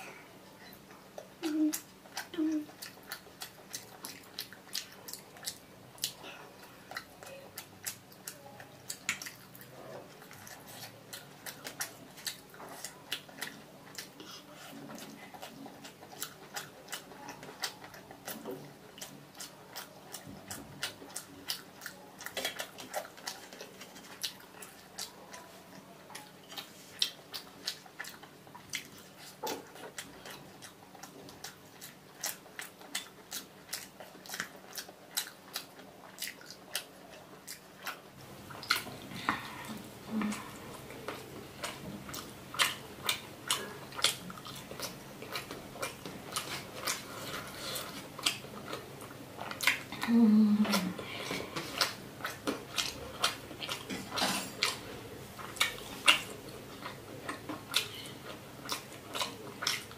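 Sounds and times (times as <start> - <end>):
chewing: 0.0 - 59.9
fingers mixing food on steel plate: 0.7 - 59.9.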